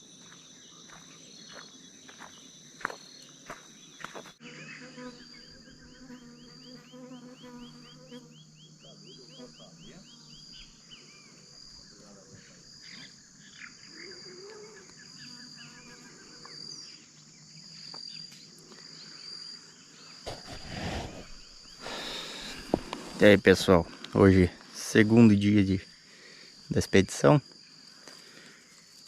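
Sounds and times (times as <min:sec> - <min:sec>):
insects buzzing: 0:00.0 - 0:29.0
birds calling: 0:00.6 - 0:27.3.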